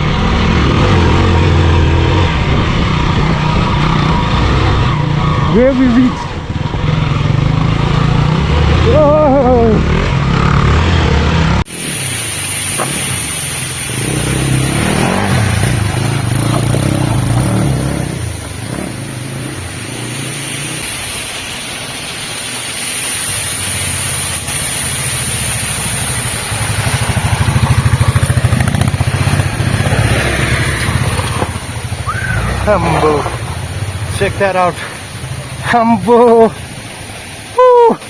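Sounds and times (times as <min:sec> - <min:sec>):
motorcycle engine revving: 0:00.0 - 0:37.3.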